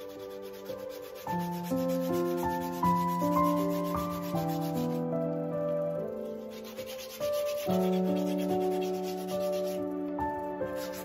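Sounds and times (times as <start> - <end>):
sandpaper rubbing wood: 0.0 - 5.0, 6.1 - 10.0, 10.7 - 11.0
background music with held notes: 0.0 - 11.0.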